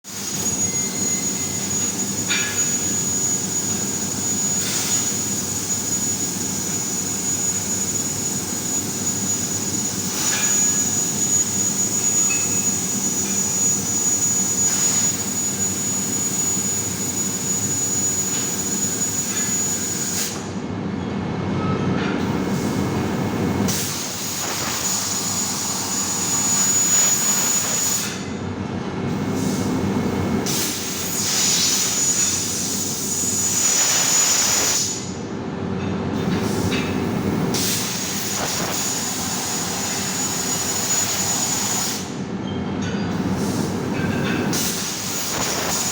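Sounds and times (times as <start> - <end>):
high-pitched machine whine: 0.1 - 20.7, 21.6 - 45.9
laser cutting machine hum and hiss: 0.1 - 20.9, 21.6 - 42.4, 43.1 - 45.9.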